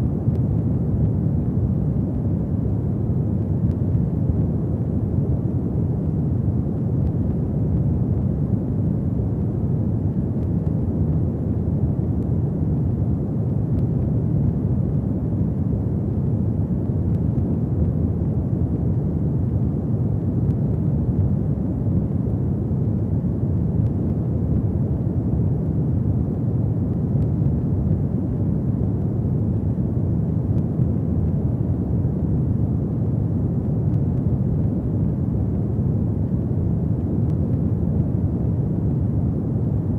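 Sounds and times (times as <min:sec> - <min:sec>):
fireplace fire burning: 0:00.0 - 0:39.9.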